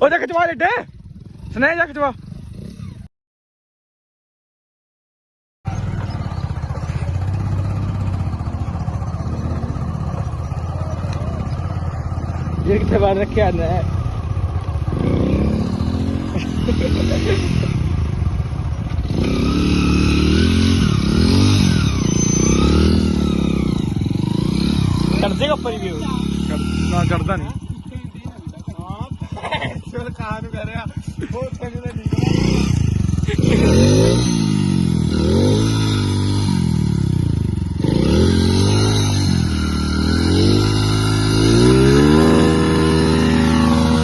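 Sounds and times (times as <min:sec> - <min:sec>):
motorcycle engine revving: 0:00.0 - 0:03.1, 0:05.7 - 0:44.0.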